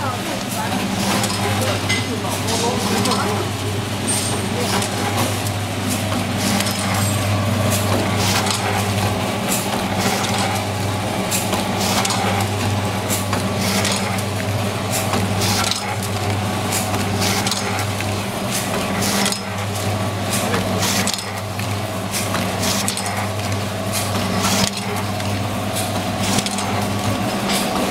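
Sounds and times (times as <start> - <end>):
packing machine humming: 0.0 - 27.9.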